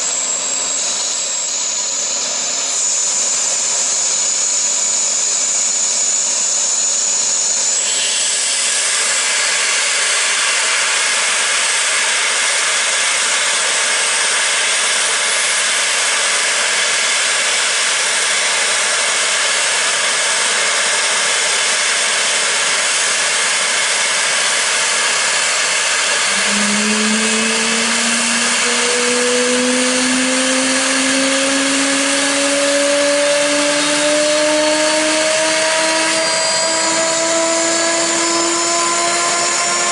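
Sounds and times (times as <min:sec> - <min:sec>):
engine spooling up whine: 0:00.0 - 0:39.9
jet engines rushing hiss and whine: 0:00.0 - 0:39.9.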